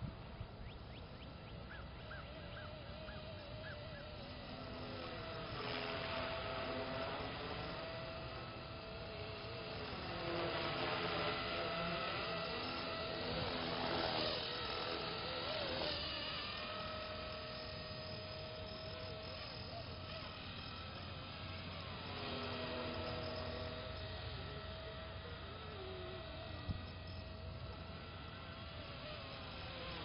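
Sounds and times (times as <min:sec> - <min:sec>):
model helicopter whining: 0:00.0 - 0:30.0.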